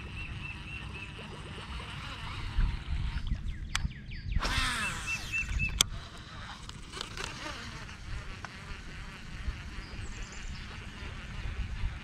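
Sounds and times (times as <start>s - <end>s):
fishing reel whirring: 0.0s - 12.0s
wind on microphone: 0.0s - 12.0s.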